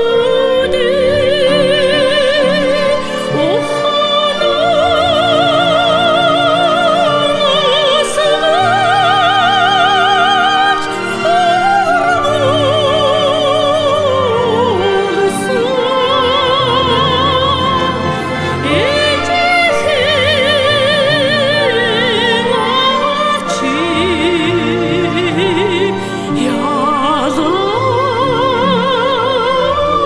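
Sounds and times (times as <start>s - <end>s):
orchestral backing: 0.0s - 30.0s
woman singing with vibrato: 0.0s - 30.0s.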